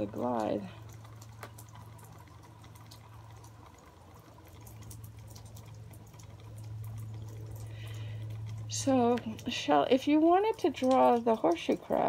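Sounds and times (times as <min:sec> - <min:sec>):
low steady hum: 0:00.0 - 0:12.0
water sloshing in a basin: 0:00.0 - 0:12.0
tiny clicks in water: 0:00.8 - 0:09.6, 0:10.4 - 0:12.0.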